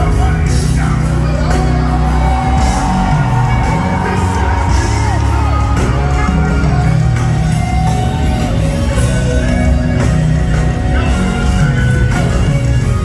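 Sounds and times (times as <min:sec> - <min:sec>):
heavy bass groove: 0:00.0 - 0:13.0
live worship band: 0:00.0 - 0:13.0
person singing: 0:00.0 - 0:13.0.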